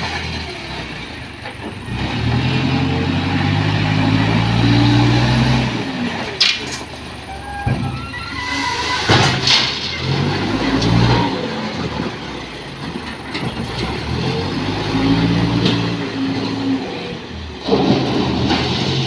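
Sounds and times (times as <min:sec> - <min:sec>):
backhoe diesel engine revving: 0:00.0 - 0:19.0.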